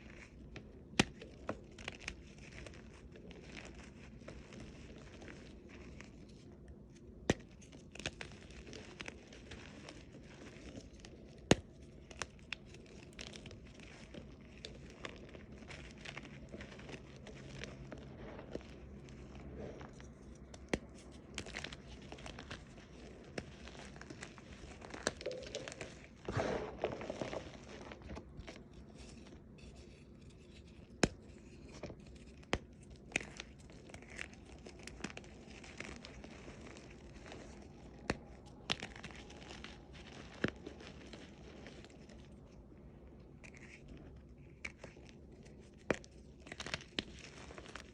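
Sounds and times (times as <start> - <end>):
chalk crunching: 0.0 - 47.9.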